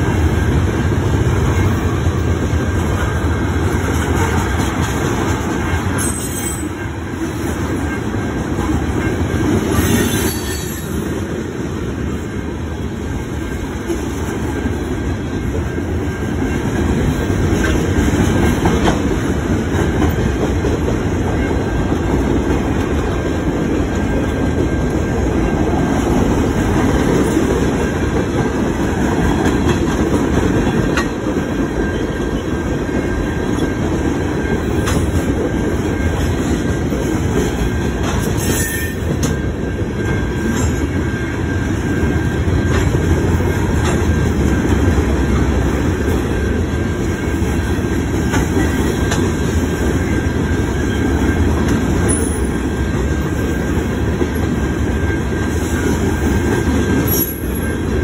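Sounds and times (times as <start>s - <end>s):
freight train wheels rumbling: 0.0s - 58.0s
wheels clicking over rail joints: 2.8s - 11.0s, 13.2s - 41.0s, 42.5s - 58.0s.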